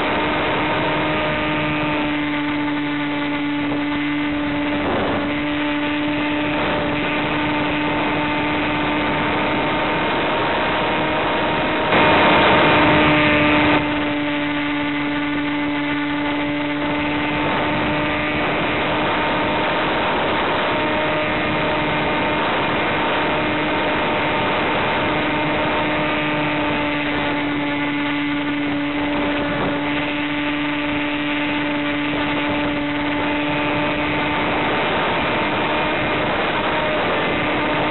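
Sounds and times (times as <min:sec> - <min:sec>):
electric motor whine: 0:00.0 - 0:37.9
rushing air noise: 0:00.0 - 0:37.9.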